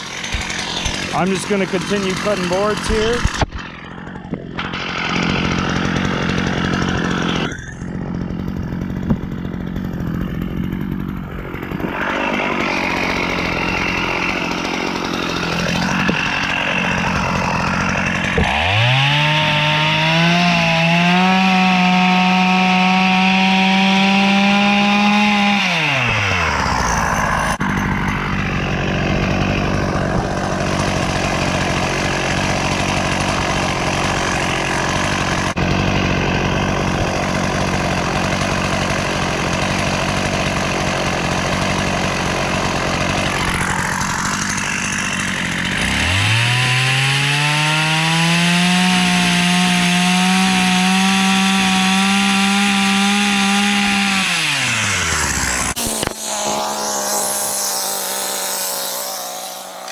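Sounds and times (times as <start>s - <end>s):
chainsaw cutting boards: 0.0s - 59.9s.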